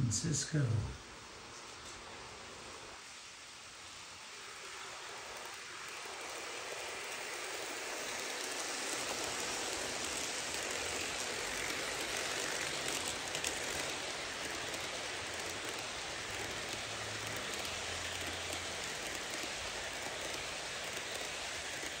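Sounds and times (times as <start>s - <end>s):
model train wheels rattling on track: 2.5s - 22.0s.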